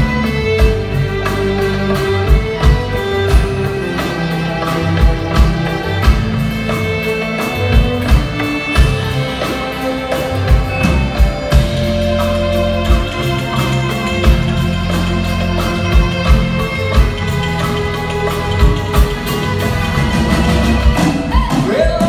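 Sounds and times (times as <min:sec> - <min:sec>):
live instrumental band music: 0:00.0 - 0:22.0.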